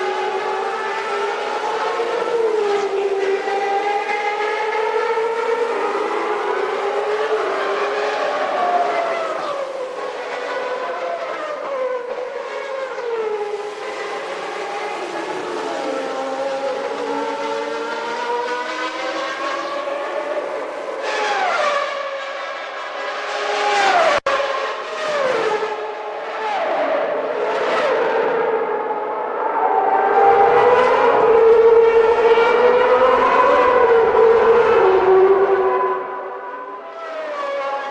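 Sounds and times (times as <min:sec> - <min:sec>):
racing car engines at high revs: 0:00.0 - 0:37.9.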